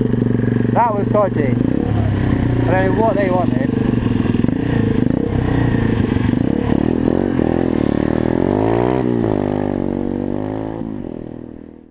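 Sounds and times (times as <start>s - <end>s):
motorbike engine accelerating: 0.0s - 11.9s.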